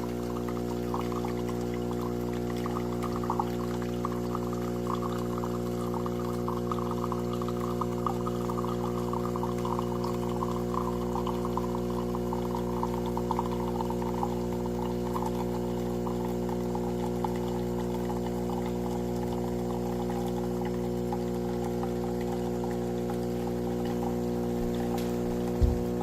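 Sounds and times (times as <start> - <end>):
espresso machine pump humming: 0.0 - 26.0
liquid pouring with fizz: 0.0 - 26.0.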